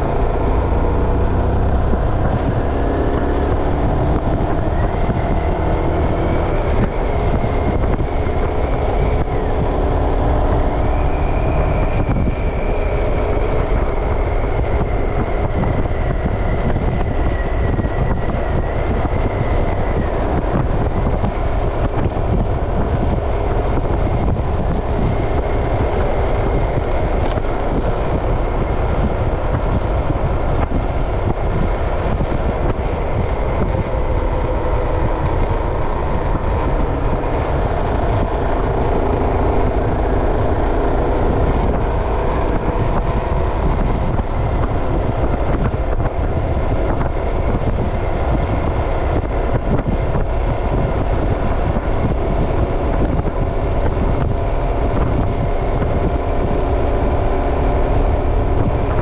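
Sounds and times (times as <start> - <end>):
road noise: 0.0 - 59.0
vehicle engine hum: 0.0 - 59.0.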